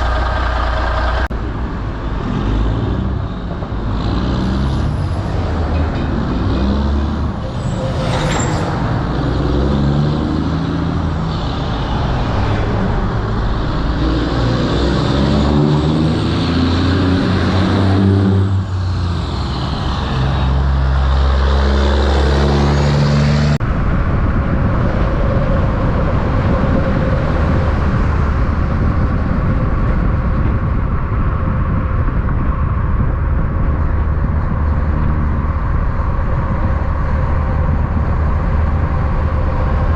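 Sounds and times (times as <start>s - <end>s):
diesel truck engine shifting gears: 0.0s - 39.9s
truck and traffic noise: 0.0s - 39.9s.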